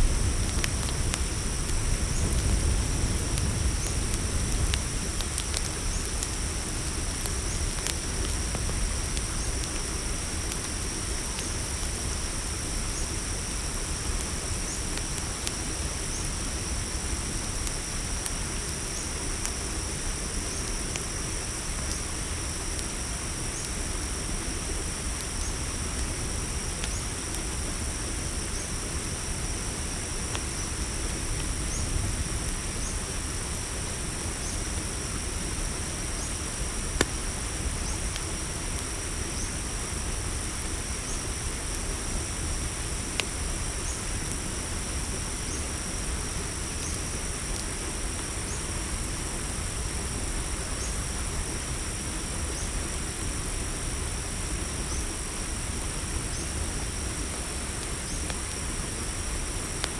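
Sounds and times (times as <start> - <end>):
campfire crackling: 0.0 - 59.9
crickets chirping: 0.0 - 59.9
low rumble of burning: 0.0 - 59.9.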